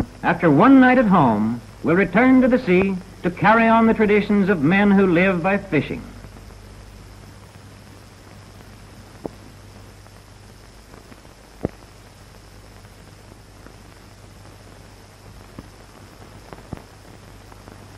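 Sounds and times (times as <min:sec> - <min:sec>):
low hum: 0:00.0 - 0:17.8
film soundtrack hiss: 0:00.0 - 0:17.9.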